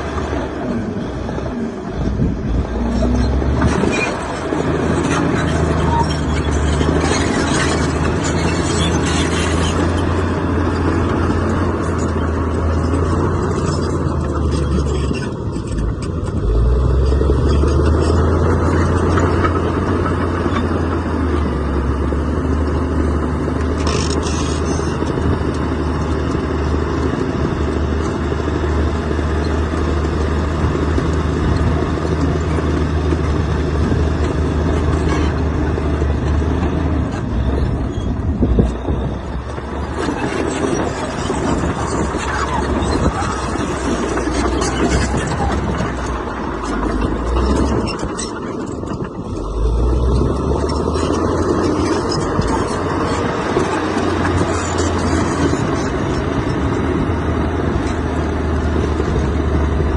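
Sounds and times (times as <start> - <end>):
heavy diesel engine running: 0.0 - 59.9
machinery clatter: 0.0 - 59.9.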